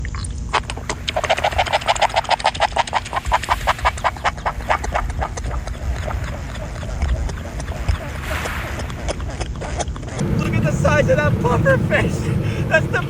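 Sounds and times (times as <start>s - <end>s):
pufferfish croaking: 0.0s - 13.0s.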